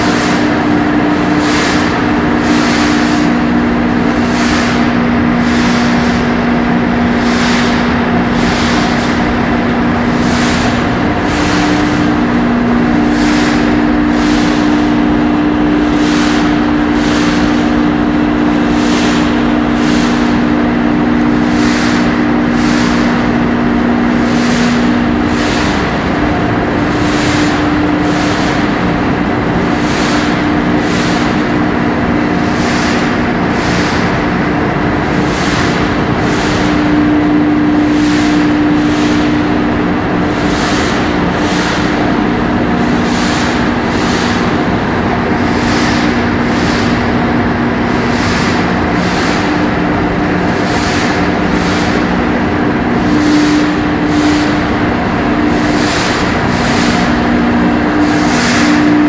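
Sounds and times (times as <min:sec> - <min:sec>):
dense machinery din: 0:00.0 - 0:59.0.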